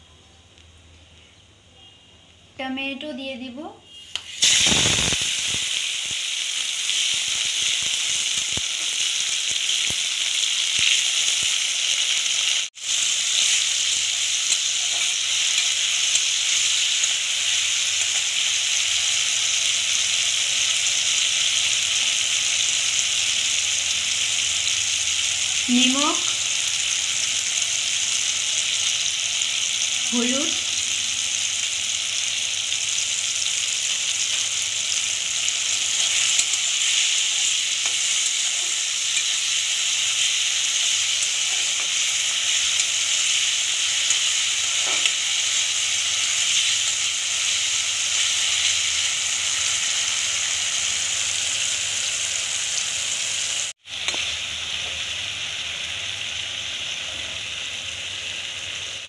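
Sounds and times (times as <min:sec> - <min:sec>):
tomatoes sizzling in oil: 0:02.9 - 0:59.0.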